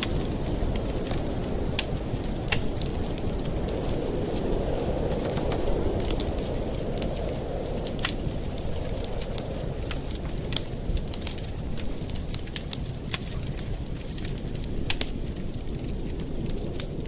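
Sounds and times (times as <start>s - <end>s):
campfire burning: 0.0s - 17.0s
wood crackling and popping: 0.0s - 17.0s.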